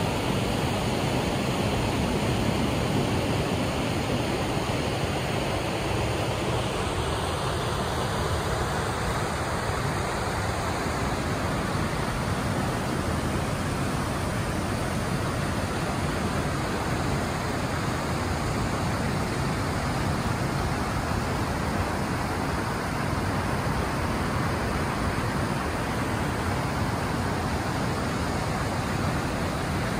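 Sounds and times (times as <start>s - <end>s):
water rushing over rocks: 0.0s - 29.9s.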